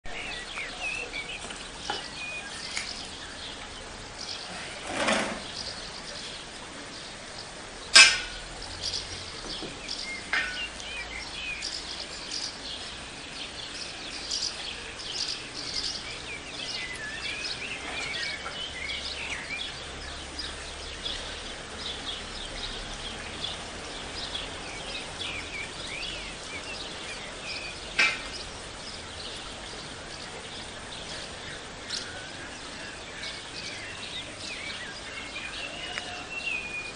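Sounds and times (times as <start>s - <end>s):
faint outdoor hiss: 0.0s - 36.9s
small birds chirping: 0.0s - 36.9s.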